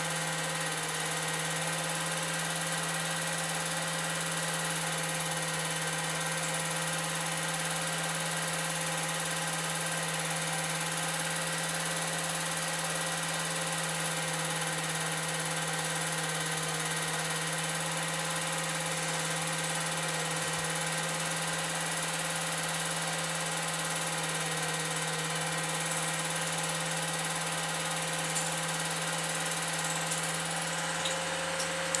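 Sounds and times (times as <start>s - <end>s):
film projector whirring: 0.2s - 32.0s.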